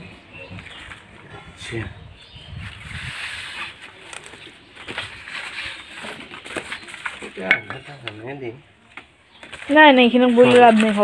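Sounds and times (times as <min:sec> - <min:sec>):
leaves rustling: 0:00.0 - 0:11.0.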